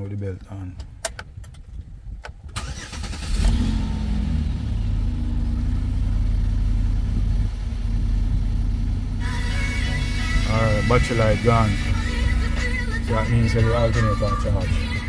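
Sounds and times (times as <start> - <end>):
car engine idling: 2.6 - 15.0.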